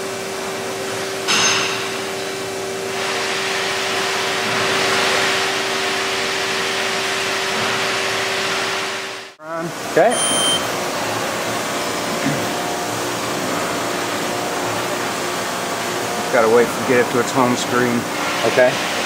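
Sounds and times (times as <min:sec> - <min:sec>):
shop machinery hum and whir: 0:00.0 - 0:19.0.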